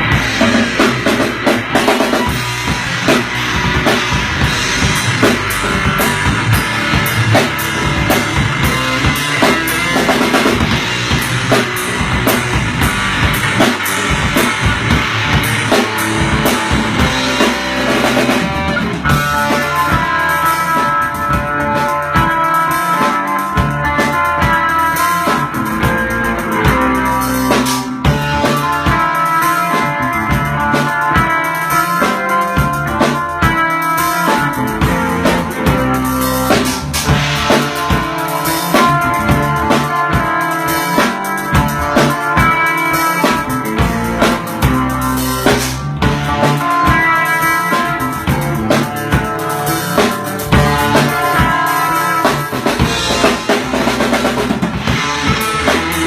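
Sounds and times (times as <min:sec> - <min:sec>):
drum kit beat: 0:00.0 - 0:56.0
rock guitar: 0:00.0 - 0:56.0.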